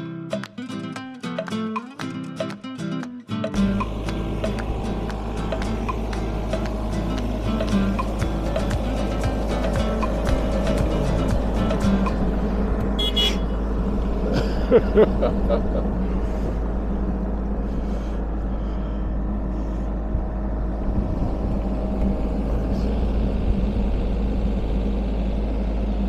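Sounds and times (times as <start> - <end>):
diesel engine idling: 3.5 - 26.0.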